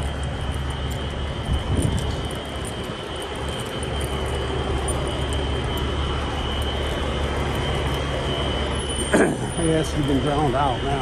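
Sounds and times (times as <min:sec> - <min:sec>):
fire alarm horn: 0:00.0 - 0:11.0
low engine rumble: 0:00.0 - 0:11.0.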